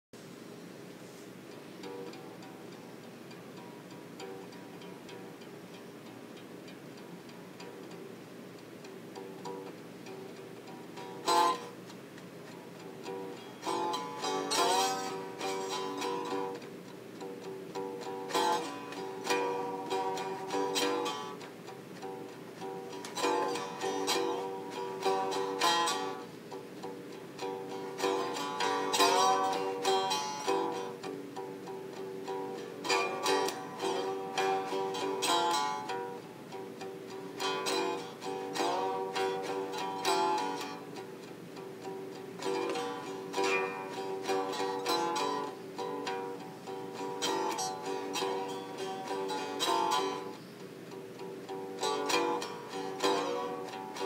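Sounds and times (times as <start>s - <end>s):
slide guitar plucked notes: 1.7s - 5.9s, 8.8s - 54.0s.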